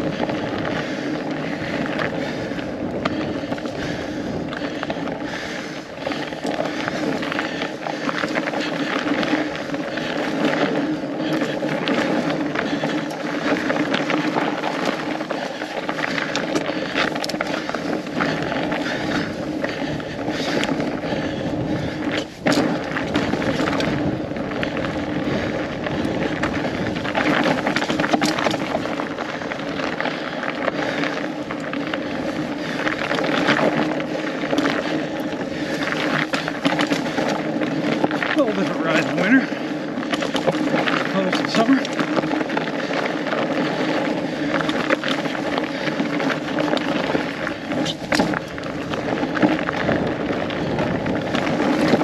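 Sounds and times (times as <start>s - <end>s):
bike rattling and clicking: 0.0s - 52.0s
bike tyres rolling on snow: 0.0s - 52.0s
wind buffeting microphone: 0.0s - 52.0s.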